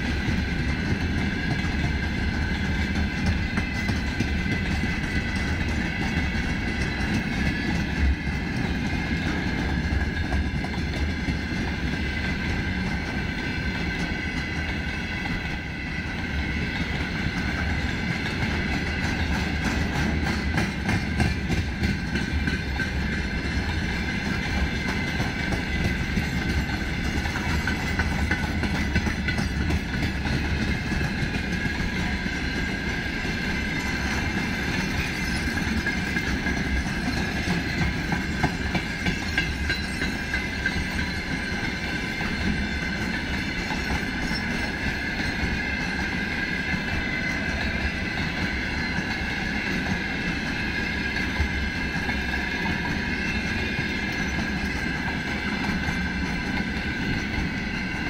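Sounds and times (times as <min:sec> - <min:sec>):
freight train wheels on rails: 0:00.0 - 0:58.0
wheels clacking over rail joints: 0:00.0 - 0:58.0.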